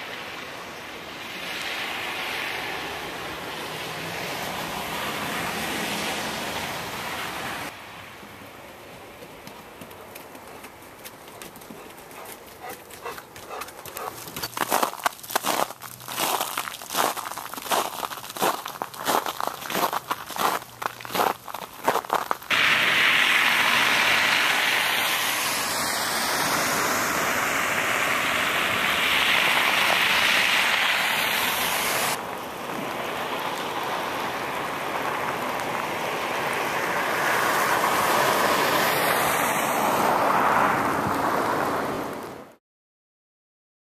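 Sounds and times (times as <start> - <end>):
freezing rain hissing on pavement: 0.0 - 7.8, 13.9 - 42.3.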